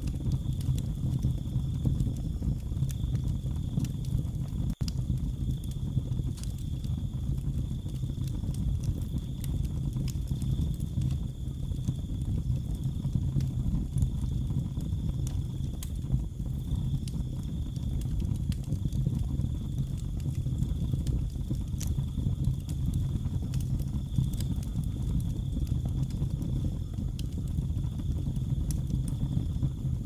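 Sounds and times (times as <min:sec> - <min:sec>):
crickets chirring: 0:00.0 - 0:30.0
wood fire crackling: 0:00.0 - 0:30.0.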